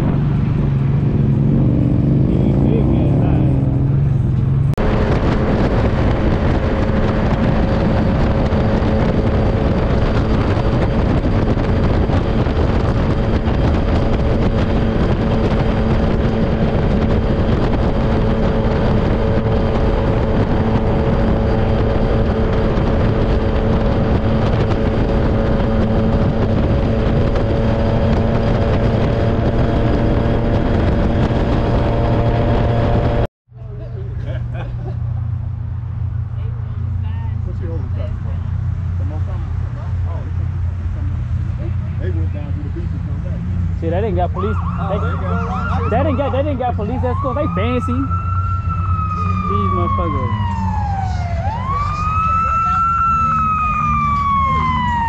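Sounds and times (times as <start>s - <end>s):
vehicle engine cruising: 0.0s - 55.0s
wind and road rush: 0.0s - 55.0s.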